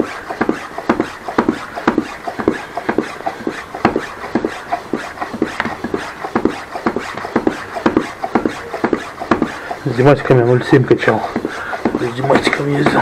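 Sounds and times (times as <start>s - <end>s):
bicycle pump puffing air: 0.0s - 13.0s.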